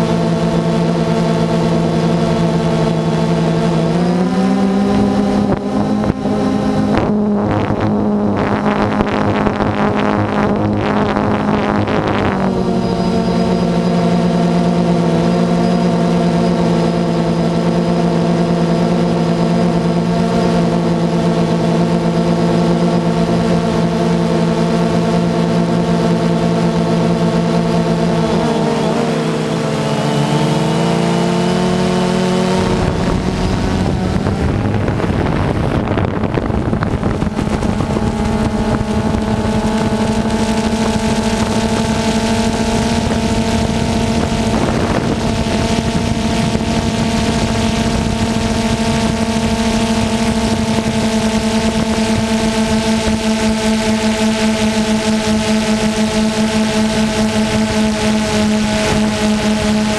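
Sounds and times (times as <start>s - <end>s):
drone motors humming: 0.0s - 59.9s
rushing wind noise: 0.0s - 59.9s.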